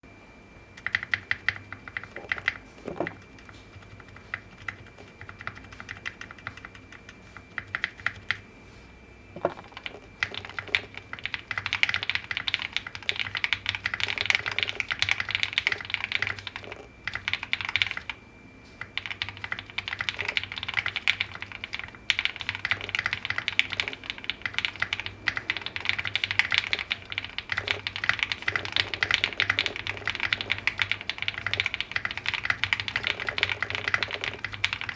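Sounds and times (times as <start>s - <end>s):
mechanical keyboard typing: 0.8s - 8.4s, 9.4s - 18.2s, 18.8s - 34.9s.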